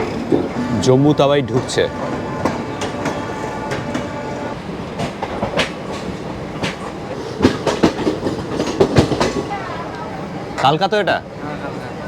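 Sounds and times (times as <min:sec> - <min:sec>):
train wheels clacking over rail joints: 0:00.0 - 0:09.8
train rumble: 0:00.0 - 0:12.0.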